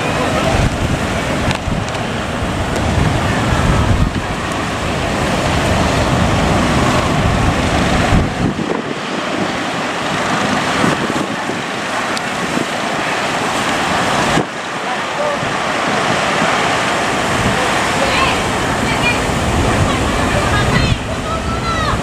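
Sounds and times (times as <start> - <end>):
ocean waves breaking: 0.0 - 22.0
wind buffeting microphone: 0.0 - 22.0.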